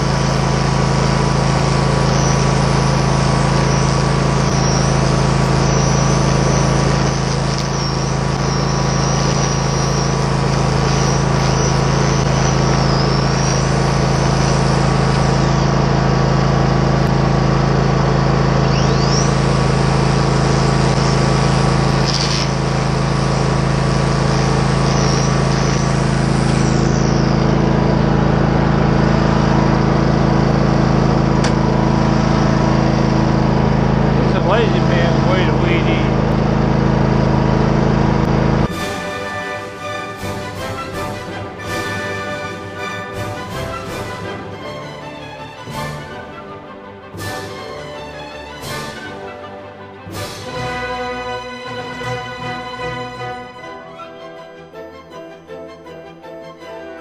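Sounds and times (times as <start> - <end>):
high whine: 0.0 - 46.4
riding mower engine running: 0.0 - 54.0.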